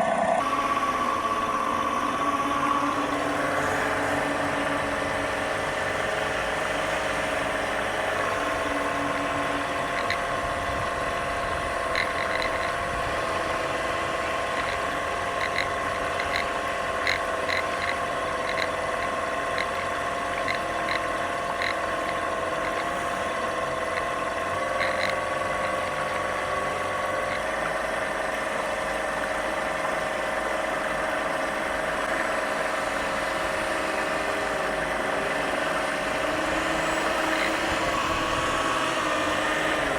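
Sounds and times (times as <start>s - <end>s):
electronic engine sound unit: 0.0s - 39.9s.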